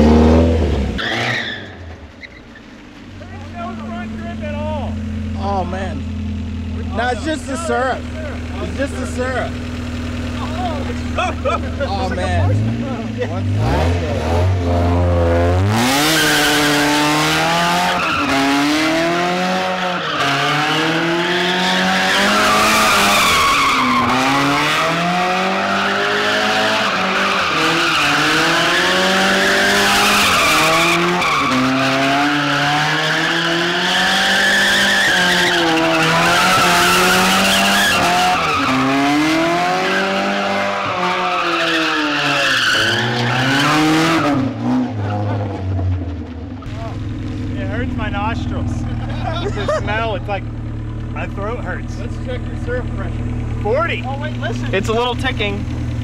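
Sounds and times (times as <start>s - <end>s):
car engine revving: 0.0s - 56.0s
tyres squealing on asphalt: 0.1s - 47.2s.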